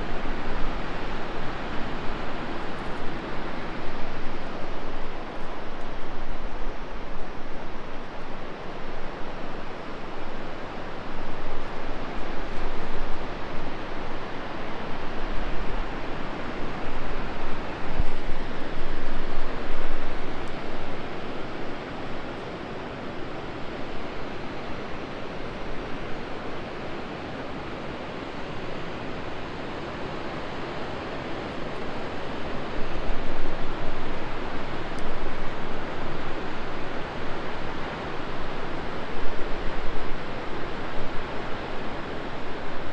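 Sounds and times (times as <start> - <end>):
fast-flowing river rushing: 0.0 - 42.9.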